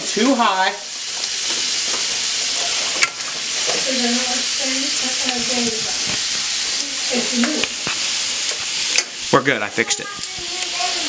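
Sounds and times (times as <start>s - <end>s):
meatballs sizzling in oil: 0.0s - 11.0s.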